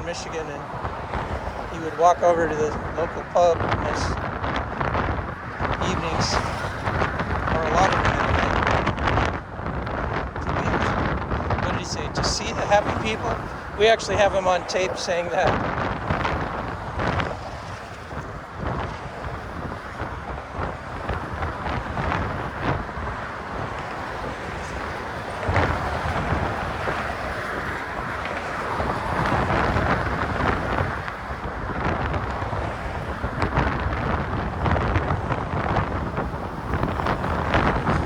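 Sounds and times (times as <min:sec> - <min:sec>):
gusty wind buffeting microphone: 0:00.0 - 0:38.0.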